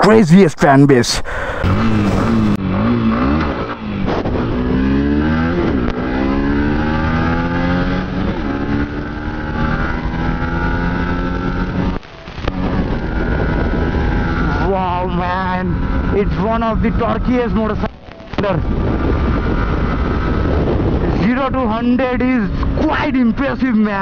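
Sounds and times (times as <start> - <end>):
motorcycle engine revving: 1.6 - 23.6.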